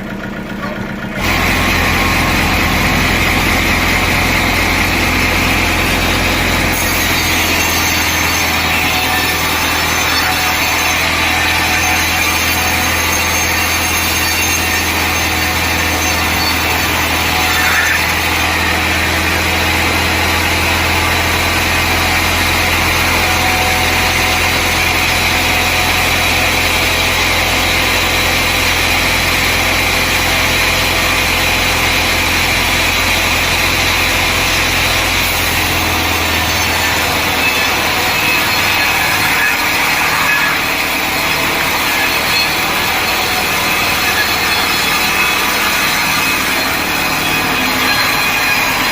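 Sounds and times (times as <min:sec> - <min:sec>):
log saw cutting timber: 0:00.0 - 0:48.9.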